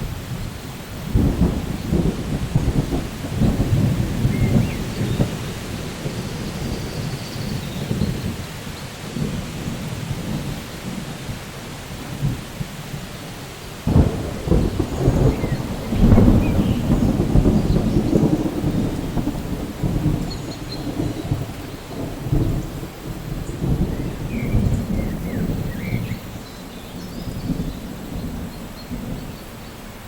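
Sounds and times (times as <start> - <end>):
thunder rumbling: 0.0 - 13.0, 13.8 - 29.8
steady rainfall: 0.0 - 30.0.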